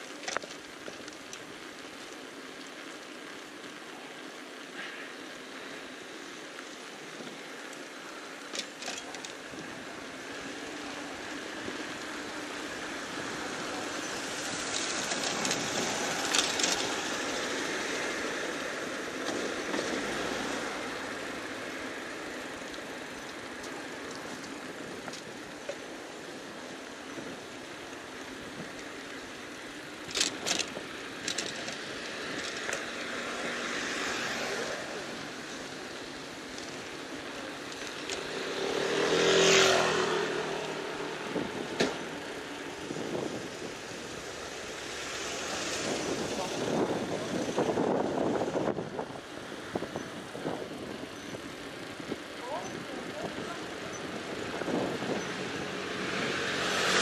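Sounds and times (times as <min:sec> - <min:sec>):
street traffic noise: 0:00.0 - 0:57.0.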